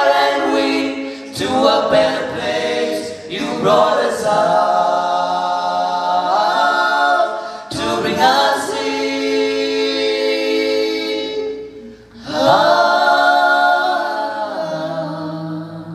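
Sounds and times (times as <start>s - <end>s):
male vocal quartet singing: 0.0s - 15.9s.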